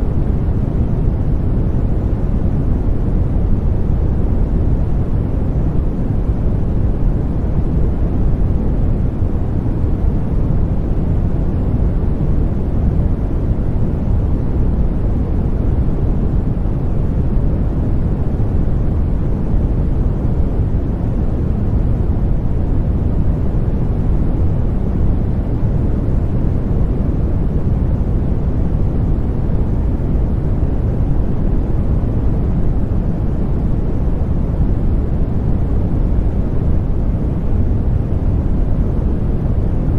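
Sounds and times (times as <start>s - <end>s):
deep rumbling white noise: 0.0s - 39.9s.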